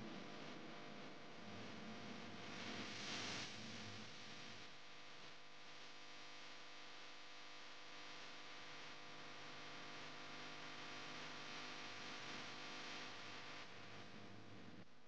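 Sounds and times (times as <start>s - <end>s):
faint steady hum and hiss: 0.0s - 15.0s.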